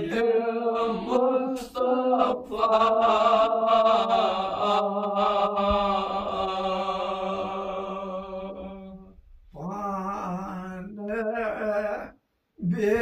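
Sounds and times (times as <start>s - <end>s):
male voices chanting: 0.0s - 13.0s.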